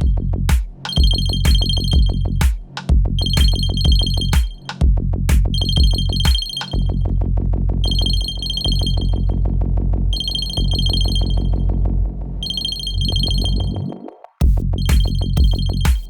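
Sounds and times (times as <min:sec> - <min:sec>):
electronic music with fast beat: 0:00.0 - 0:07.1, 0:07.9 - 0:09.4, 0:10.2 - 0:11.7, 0:12.4 - 0:16.0.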